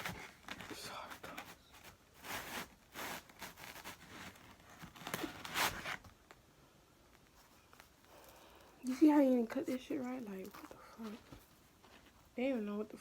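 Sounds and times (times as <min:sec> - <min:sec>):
pizza tearing and rustling: 0:00.0 - 0:06.2, 0:07.3 - 0:12.2.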